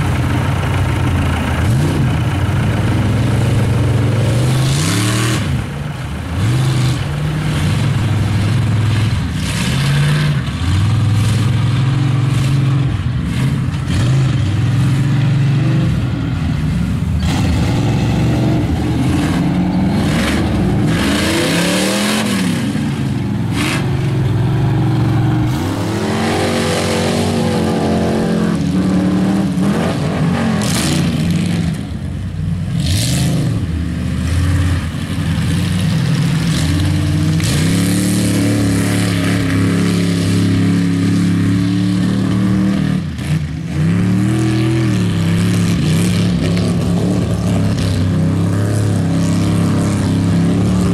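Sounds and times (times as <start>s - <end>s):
truck engines revving: 0.0s - 50.9s
trucks churning through mud: 0.0s - 50.9s.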